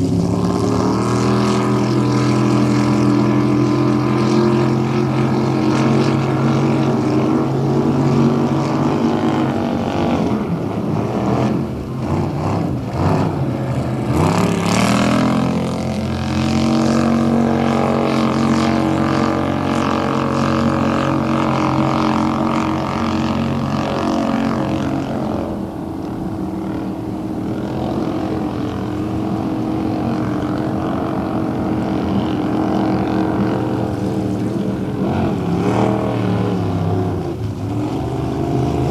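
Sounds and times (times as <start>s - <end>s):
motorboat engines roaring: 0.0s - 38.9s.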